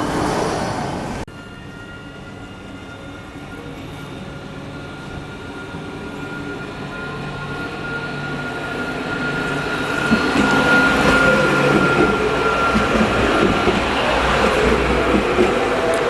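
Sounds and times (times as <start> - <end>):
high whine of train: 0.0 - 16.0
train rumbling past: 0.0 - 16.0.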